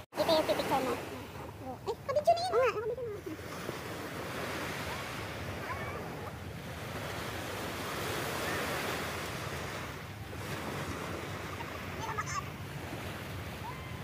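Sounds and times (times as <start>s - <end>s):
small waves washing up beach: 0.0s - 14.0s.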